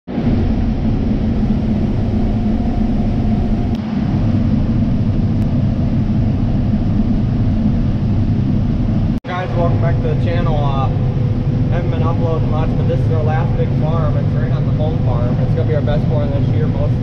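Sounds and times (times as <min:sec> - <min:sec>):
combine harvester rumble: 0:00.1 - 0:17.0.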